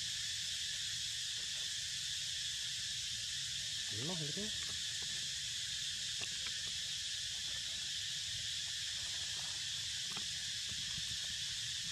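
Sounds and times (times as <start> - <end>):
insects droning: 0.0 - 11.9.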